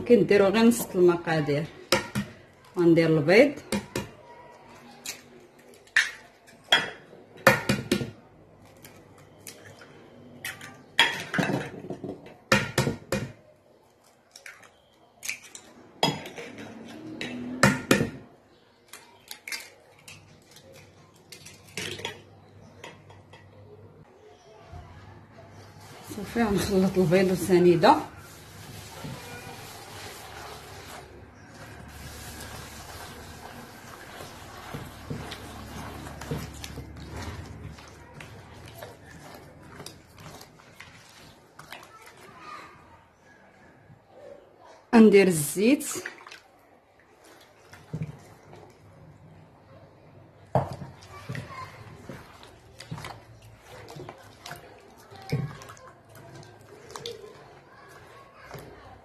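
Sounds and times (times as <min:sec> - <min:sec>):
wet squishing of hand mixing: 0:00.0 - 0:44.2, 0:45.0 - 0:59.0.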